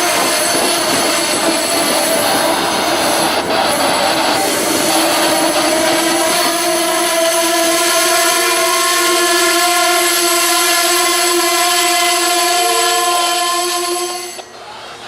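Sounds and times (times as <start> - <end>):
locomotive air horn blast: 0.0 - 15.0.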